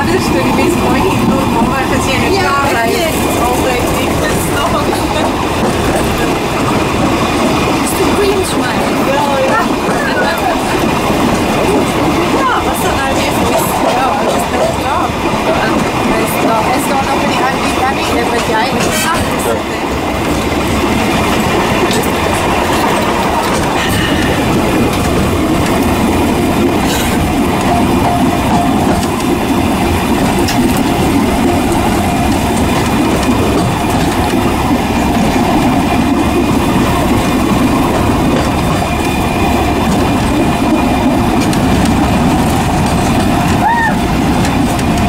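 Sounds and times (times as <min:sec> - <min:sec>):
train wheels on rails: 0:00.0 - 0:45.0.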